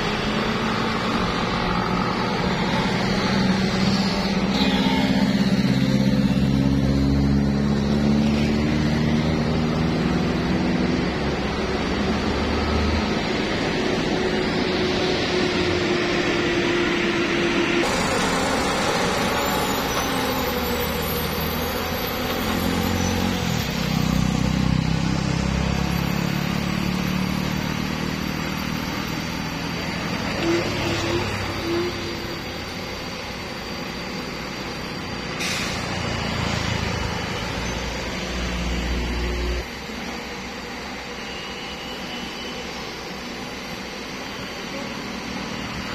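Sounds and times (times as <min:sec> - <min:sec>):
diesel truck engines: 0:00.0 - 0:45.9
road and tyre noise: 0:00.0 - 0:45.9.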